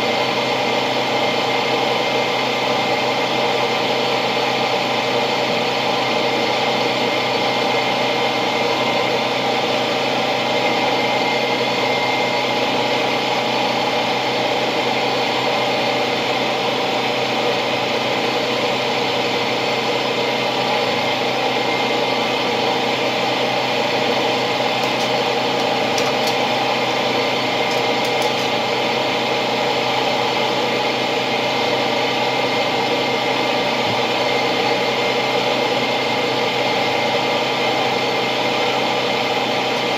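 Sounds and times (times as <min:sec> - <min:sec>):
small motor humming with high whine: 0:00.0 - 0:39.9.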